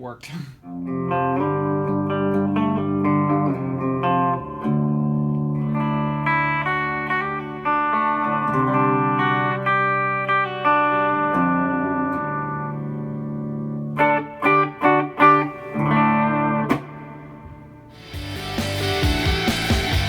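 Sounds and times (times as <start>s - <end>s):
electric guitar chords ringing: 0.6s - 20.0s.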